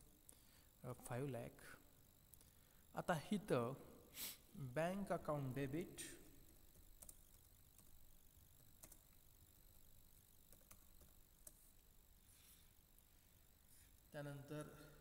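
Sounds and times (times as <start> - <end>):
faint room hiss: 0.0 - 15.0.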